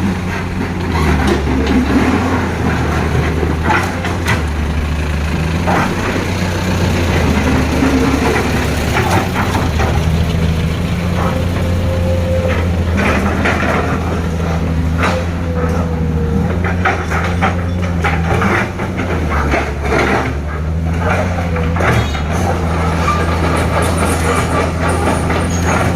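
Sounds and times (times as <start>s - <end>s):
diesel truck engine at low revs: 0.0s - 25.9s
truck clanks and rattles: 0.0s - 25.9s.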